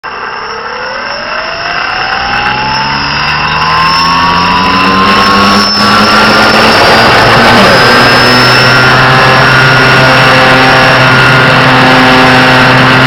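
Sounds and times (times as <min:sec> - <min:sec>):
model aircraft motor whining: 0:00.0 - 0:13.0
rushing air: 0:00.0 - 0:13.0.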